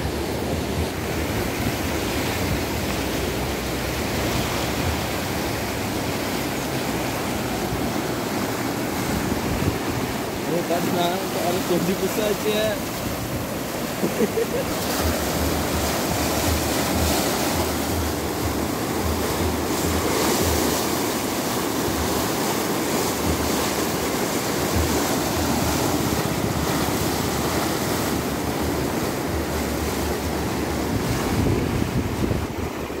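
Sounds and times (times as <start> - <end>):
floodwater rushing: 0.0 - 33.0.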